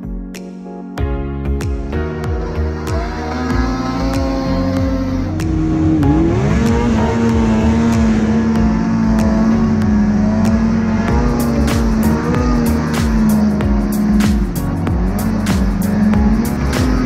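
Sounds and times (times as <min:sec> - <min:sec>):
snowmobile engine revving: 0:02.3 - 0:17.0.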